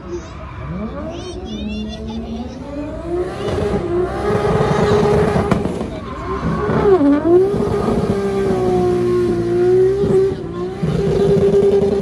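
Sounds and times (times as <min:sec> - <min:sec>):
car engine at high revs: 0:01.9 - 0:12.0.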